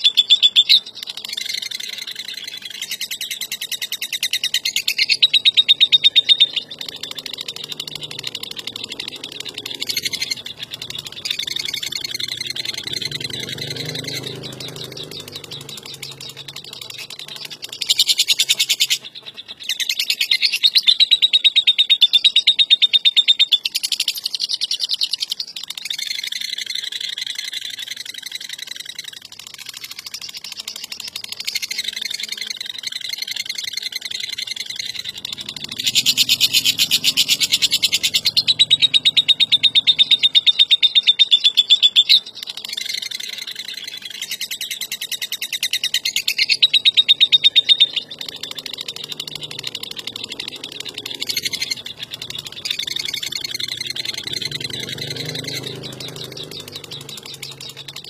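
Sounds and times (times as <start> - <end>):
lovebird chattering trill: 0.0 - 58.0.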